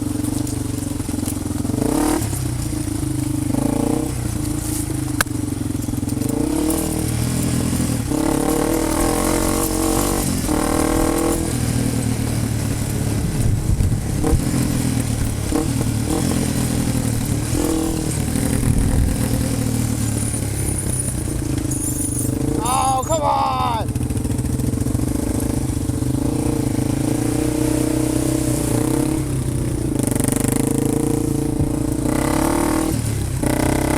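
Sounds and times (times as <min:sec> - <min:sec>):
off-road vehicle engine revving: 0:00.0 - 0:33.9.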